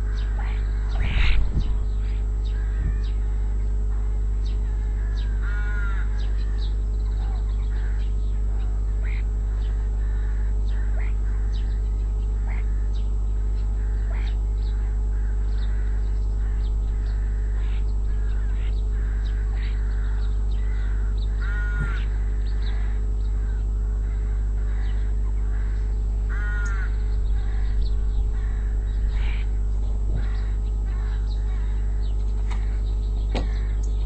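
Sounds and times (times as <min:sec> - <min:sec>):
crow cawing: 0:00.0 - 0:34.0
low hum: 0:00.0 - 0:34.0
small birds chirping: 0:00.0 - 0:34.0.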